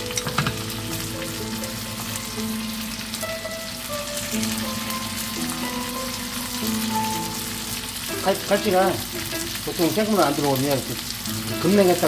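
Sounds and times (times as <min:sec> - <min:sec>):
fish frying in a pan: 0:00.0 - 0:12.0
slow background music: 0:00.0 - 0:12.0.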